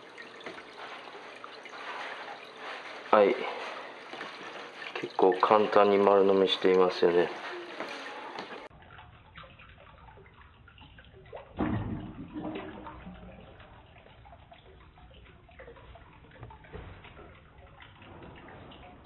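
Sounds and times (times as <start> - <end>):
water trickling in aquarium: 0.0 - 19.0.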